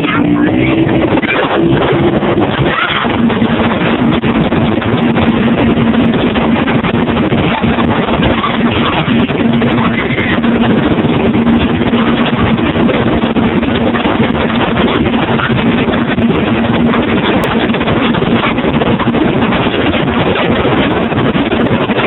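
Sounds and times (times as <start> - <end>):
outboard motor running: 0.0 - 22.0
water rushing: 0.0 - 22.0.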